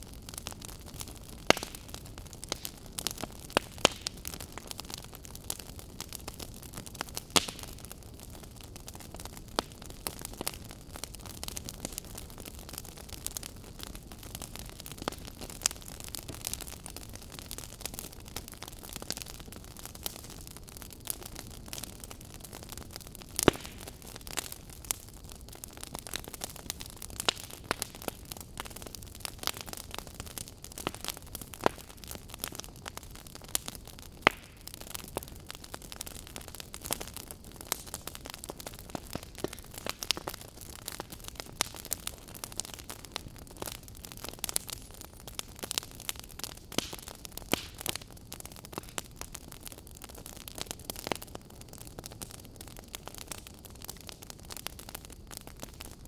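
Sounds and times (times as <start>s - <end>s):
firewood crackling and popping: 0.0s - 56.0s
flames hissing and rumbling: 0.0s - 56.0s.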